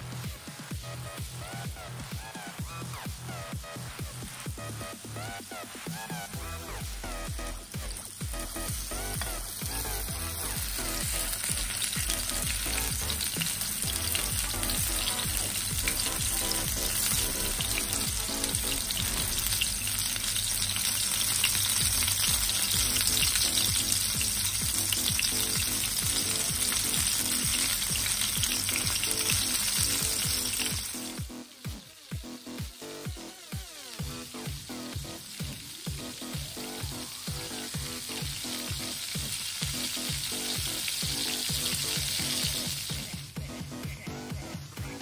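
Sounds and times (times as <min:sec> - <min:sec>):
chicken sizzling in hot oil: 0:00.1 - 0:43.4.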